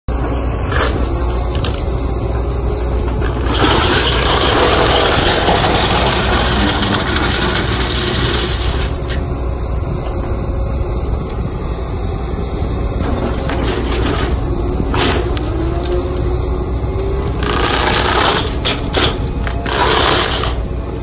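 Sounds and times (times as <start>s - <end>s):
diesel engine under load: 0.1s - 21.0s
mulcher grinding wood: 0.1s - 21.0s.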